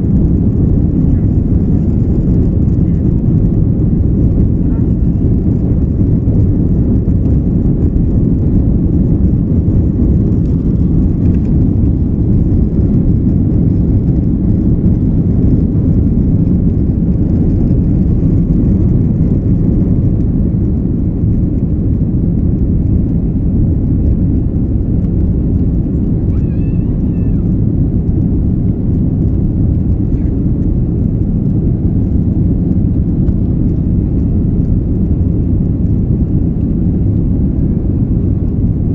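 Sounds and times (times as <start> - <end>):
jet engines and airflow rumble: 0.0 - 38.9.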